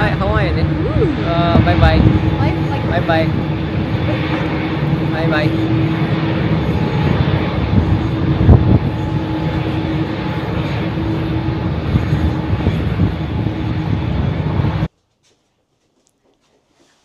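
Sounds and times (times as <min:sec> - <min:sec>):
jet engines roaring: 0:00.0 - 0:14.9.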